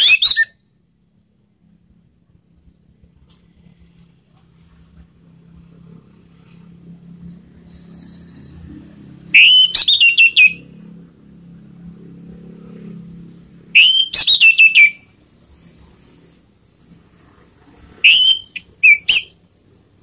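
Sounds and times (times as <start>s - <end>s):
low background rumble and hum: 0.0s - 20.0s.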